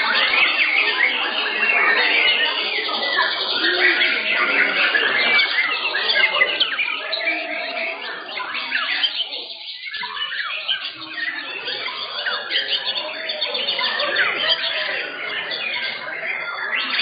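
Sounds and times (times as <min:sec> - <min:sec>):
birds whistling and chirping: 0:00.0 - 0:17.0.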